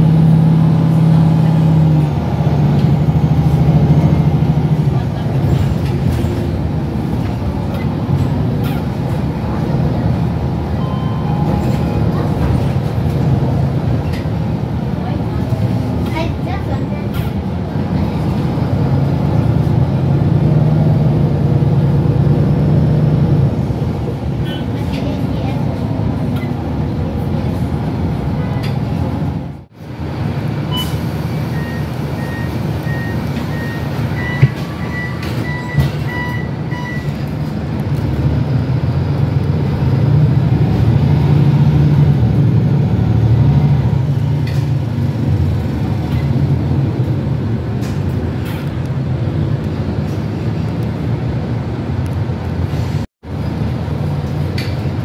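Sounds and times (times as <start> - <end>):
bus diesel engine droning: 0.0 - 55.0
road noise: 0.0 - 55.0.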